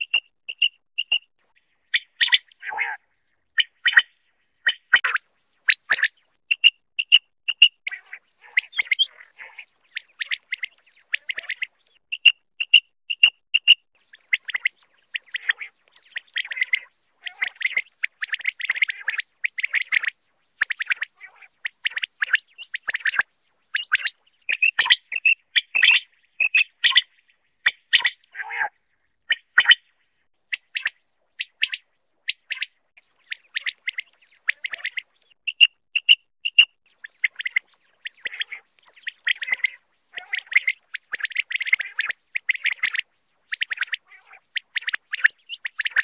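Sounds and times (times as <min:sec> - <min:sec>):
quail calling: 0:00.0 - 0:01.3, 0:01.9 - 0:29.8, 0:30.5 - 0:46.0.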